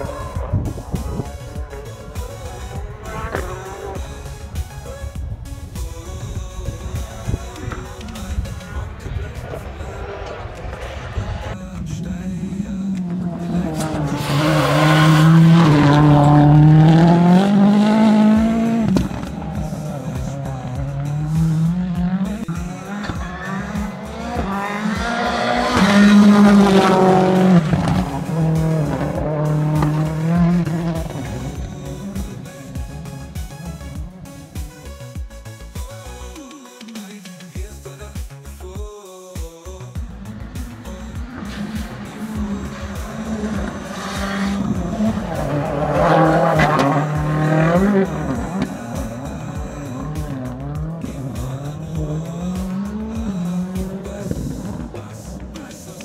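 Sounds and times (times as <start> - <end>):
race car engine revving: 0.0 - 5.8, 7.5 - 35.0, 40.0 - 56.0.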